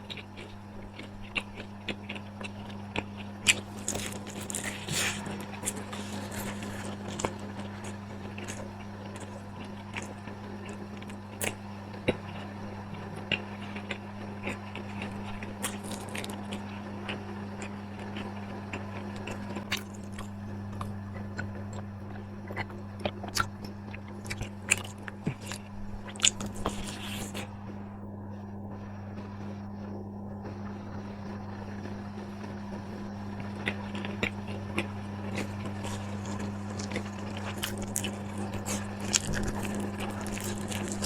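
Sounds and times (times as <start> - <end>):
crunching and chewing: 0.0 - 27.6, 30.5 - 41.0
steady low hum: 0.0 - 41.0.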